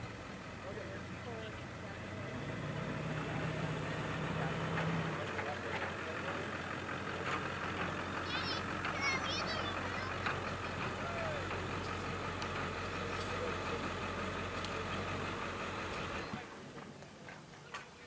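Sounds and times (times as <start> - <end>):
motor vehicle engine hum: 0.0 - 18.0.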